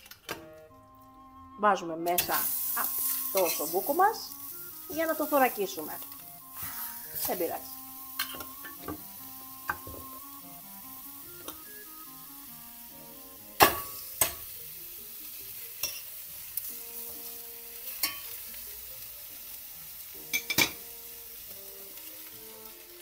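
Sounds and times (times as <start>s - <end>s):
meat sizzling in a pot: 2.1s - 23.0s.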